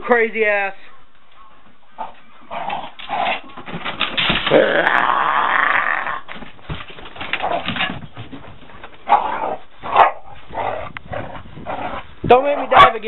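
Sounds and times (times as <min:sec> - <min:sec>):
dogs growling and scuffling: 0:01.3 - 0:13.0.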